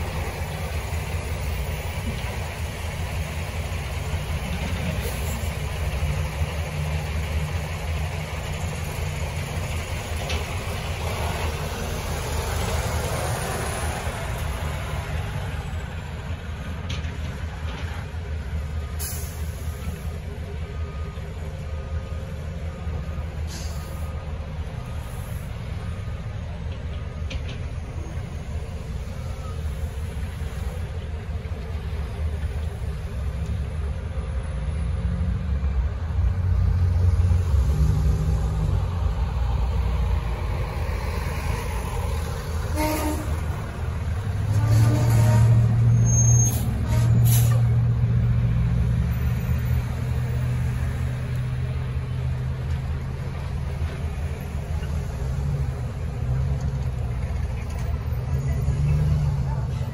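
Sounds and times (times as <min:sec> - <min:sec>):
traffic engine rumble: 0:00.0 - 0:59.9.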